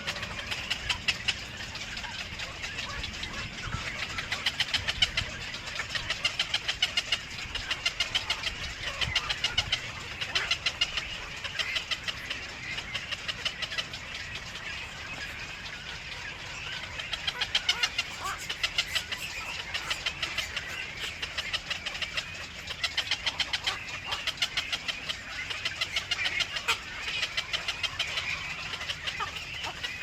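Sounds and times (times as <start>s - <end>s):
nestling birds cheeping: 0.0s - 30.0s.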